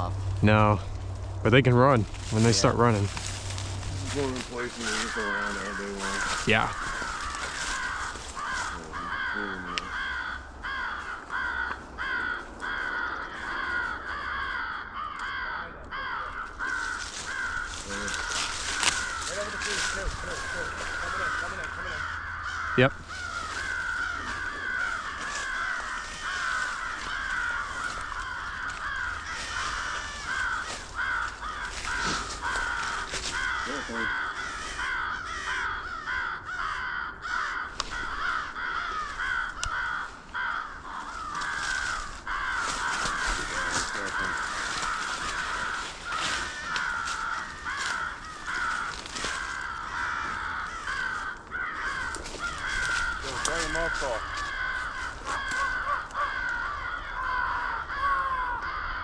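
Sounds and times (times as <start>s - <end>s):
crows cawing: 0.0s - 59.0s.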